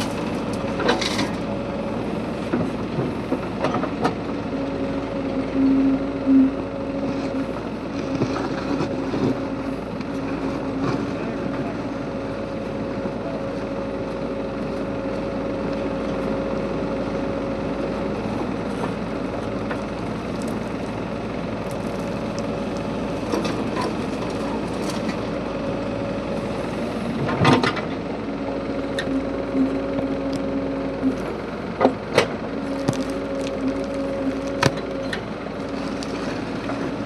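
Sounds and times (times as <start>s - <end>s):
backhoe diesel engine running: 0.0s - 37.0s.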